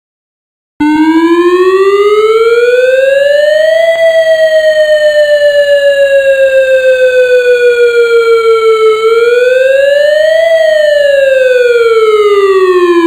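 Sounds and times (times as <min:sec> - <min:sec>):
electronic siren wailing: 0:00.8 - 0:13.0.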